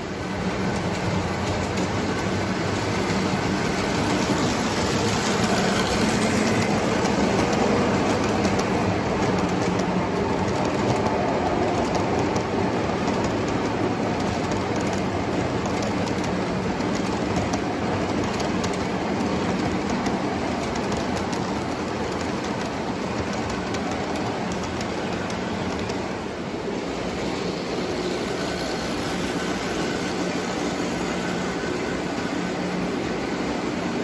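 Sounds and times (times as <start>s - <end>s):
clicking at rail joints: 0.0s - 34.0s
model train wheels rumbling: 0.0s - 34.0s.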